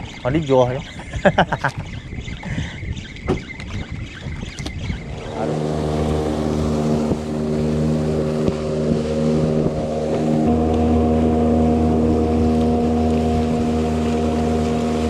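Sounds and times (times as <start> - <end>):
boat engine running: 0.0 - 15.0
water splashing off hull: 0.0 - 15.0.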